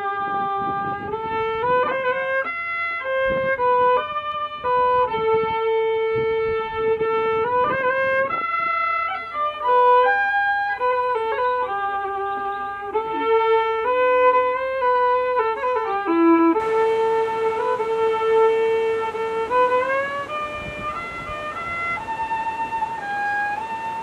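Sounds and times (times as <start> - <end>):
solo fiddle slow melody: 0.0 - 24.0.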